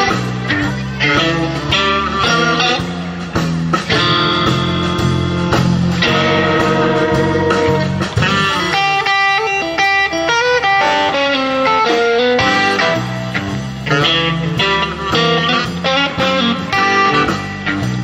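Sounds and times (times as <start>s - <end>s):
bass guitar: 0.0s - 18.0s
blues-rock electric guitar: 0.0s - 18.0s.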